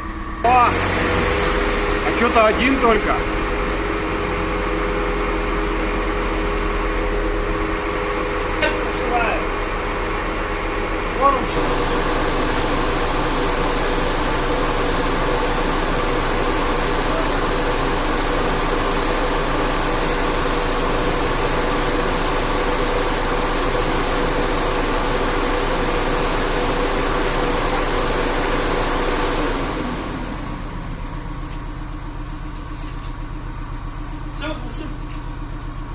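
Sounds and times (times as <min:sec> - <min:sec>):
car engine idling: 0:00.0 - 0:35.9
electric radiator fan running: 0:00.0 - 0:35.9.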